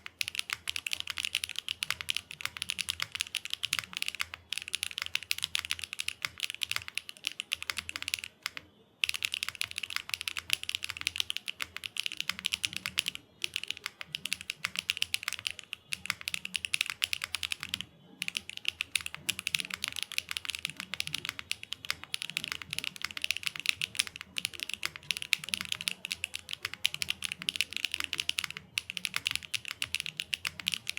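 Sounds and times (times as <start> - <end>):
mechanical keyboard typing: 0.0 - 30.9.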